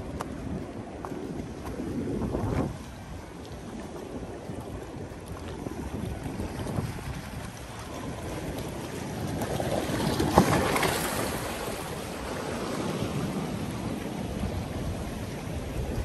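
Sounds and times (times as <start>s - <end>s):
sea waves washing over rocks: 0.0s - 16.0s
wind rumbling on microphone: 0.0s - 16.0s.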